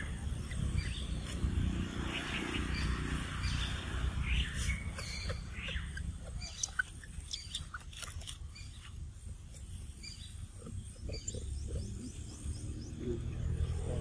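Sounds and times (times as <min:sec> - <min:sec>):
animals chirping and squeaking: 0:00.0 - 0:14.0.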